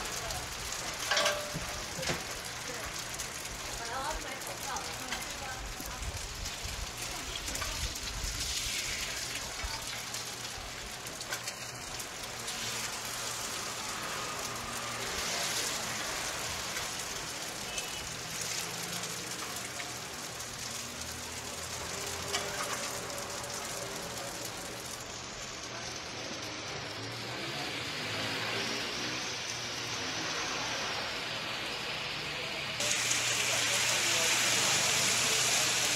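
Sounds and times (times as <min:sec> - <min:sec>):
eggs sizzling on a griddle: 0:00.0 - 0:35.9.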